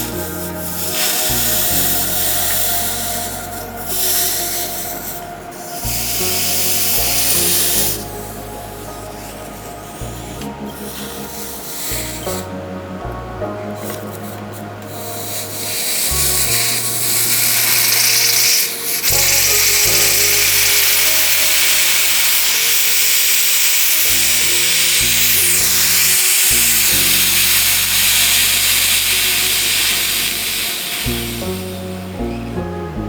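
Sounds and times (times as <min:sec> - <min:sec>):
background music with bass line: 0:00.0 - 0:33.0
loud steady hissing: 0:00.0 - 0:33.0.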